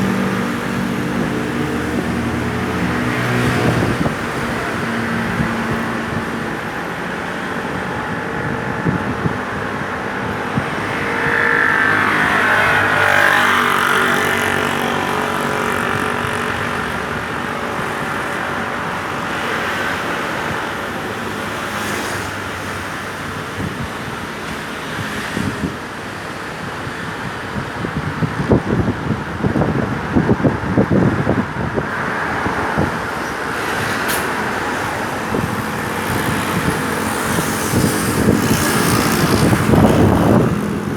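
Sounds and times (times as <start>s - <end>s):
vehicles passing: 0.0s - 40.9s.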